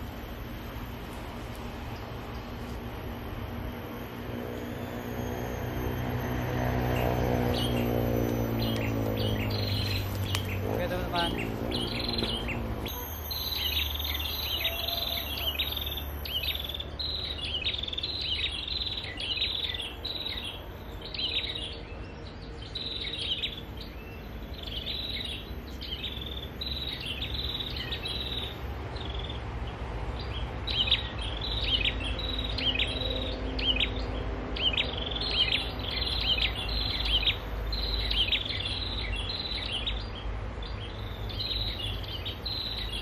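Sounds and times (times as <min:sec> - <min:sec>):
bird chirping song: 0:00.0 - 0:43.0.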